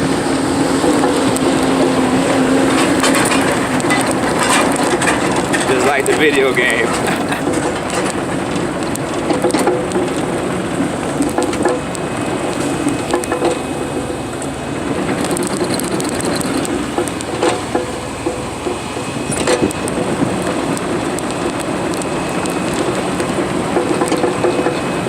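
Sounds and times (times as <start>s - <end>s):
excavator running: 0.0s - 25.0s
sharp cracks and clanks: 2.7s - 24.9s.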